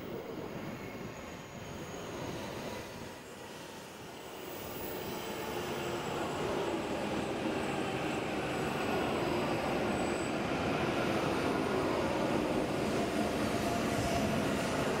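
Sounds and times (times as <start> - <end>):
train running noise: 0.1 - 15.0.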